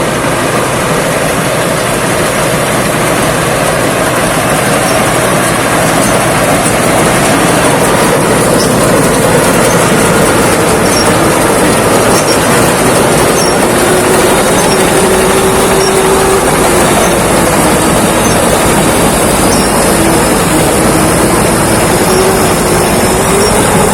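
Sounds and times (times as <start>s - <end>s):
combine harvester running: 0.0s - 23.9s.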